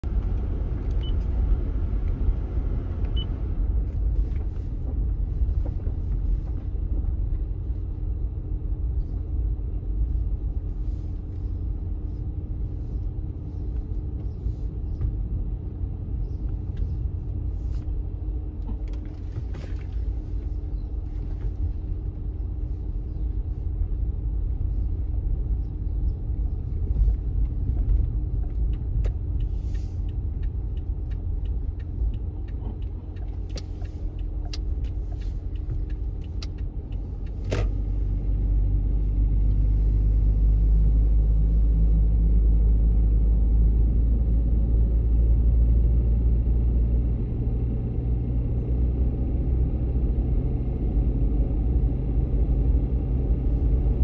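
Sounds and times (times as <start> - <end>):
car driving rumble inside cabin: 0.0 - 54.0.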